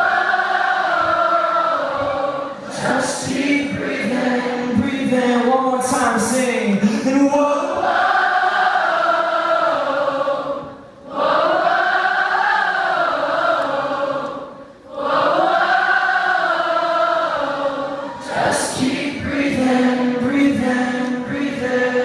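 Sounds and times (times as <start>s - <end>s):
crowd singing in unison: 0.0s - 5.5s, 7.7s - 22.0s.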